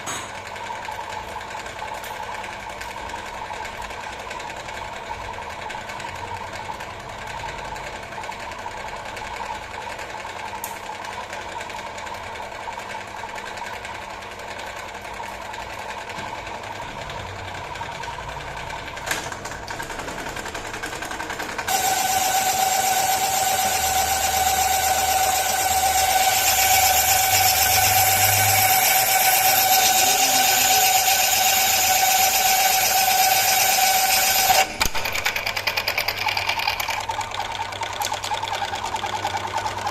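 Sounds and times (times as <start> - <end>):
metal lathe running: 0.1 - 39.9.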